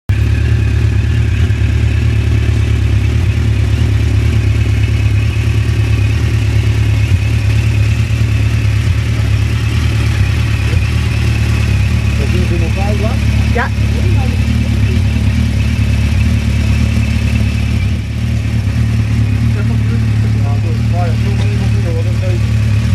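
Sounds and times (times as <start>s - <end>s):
motorcycle engine idling: 0.1s - 22.9s.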